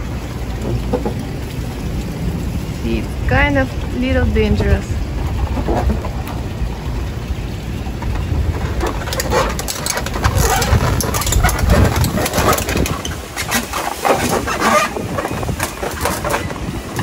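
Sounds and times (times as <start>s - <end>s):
crackles and rustles: 0.0s - 17.0s
wind buffeting microphone: 0.0s - 17.0s.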